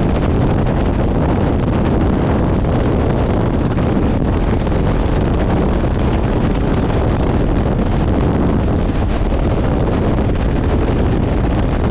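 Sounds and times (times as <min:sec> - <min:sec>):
helicopter rotor and engine: 0:00.0 - 0:11.9
wind buffeting microphone: 0:00.0 - 0:11.9.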